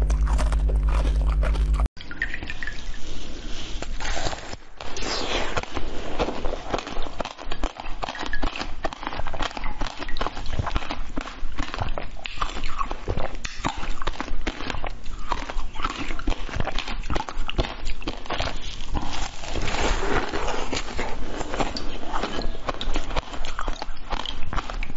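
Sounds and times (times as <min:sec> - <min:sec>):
wet mouth chewing sounds: 0:00.0 - 0:01.9, 0:05.5 - 0:24.9.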